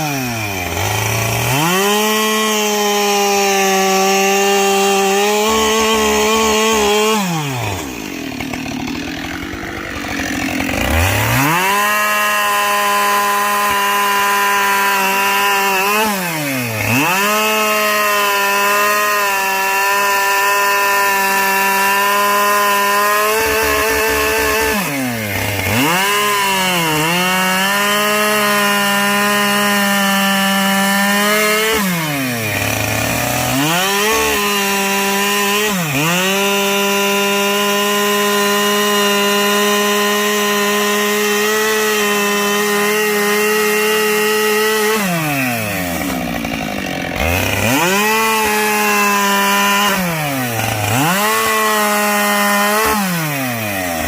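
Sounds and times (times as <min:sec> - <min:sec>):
chainsaw revving and cutting: 0:00.0 - 0:54.0.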